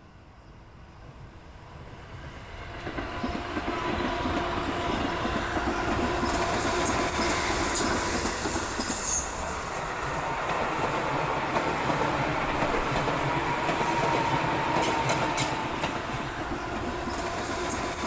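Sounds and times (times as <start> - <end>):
electric train rumbling: 0.1 - 18.0.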